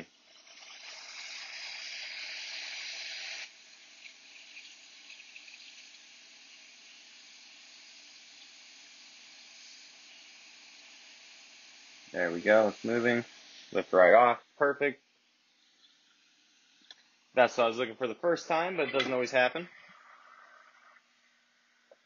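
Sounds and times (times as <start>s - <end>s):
hot air station hissing: 0.0s - 22.0s.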